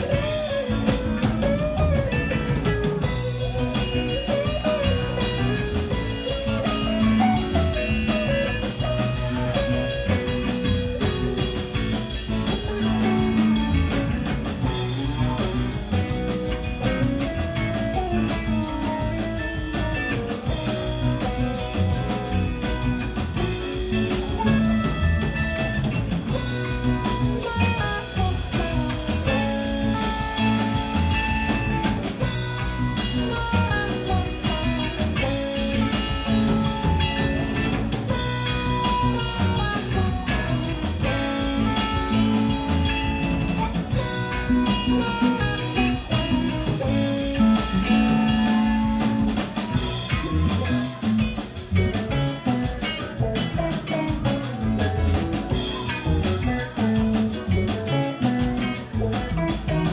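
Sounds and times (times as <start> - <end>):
bass guitar: 0.0 - 59.9
drum kit: 0.0 - 59.9
electric guitars: 0.0 - 59.9
keyboard: 0.0 - 59.9.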